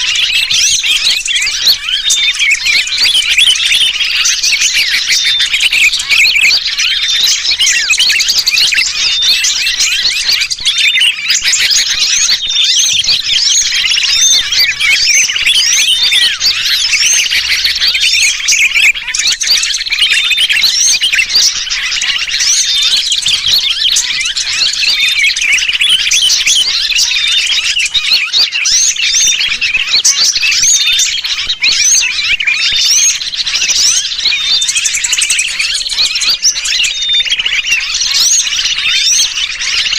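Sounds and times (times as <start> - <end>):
bulbul distress calls: 0.0 - 39.9
flock of small birds chirping: 0.0 - 39.9.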